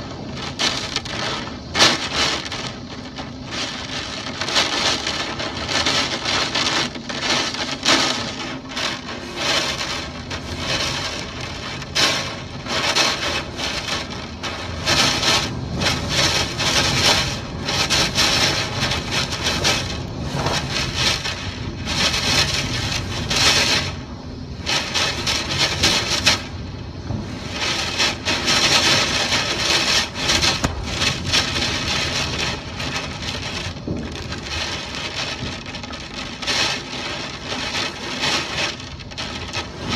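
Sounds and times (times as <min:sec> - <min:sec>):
gusting typhoon wind: 0:00.0 - 0:39.9
rain: 0:00.0 - 0:39.9.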